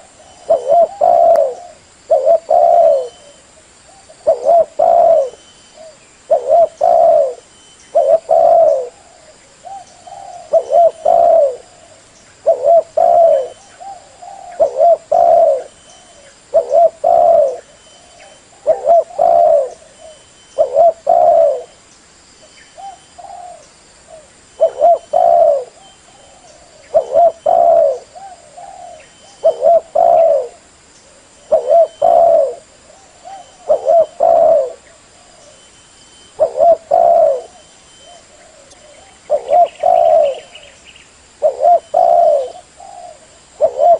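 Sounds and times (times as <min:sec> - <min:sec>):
dove cooing: 0:00.0 - 0:21.8, 0:22.8 - 0:40.8, 0:41.4 - 0:43.9.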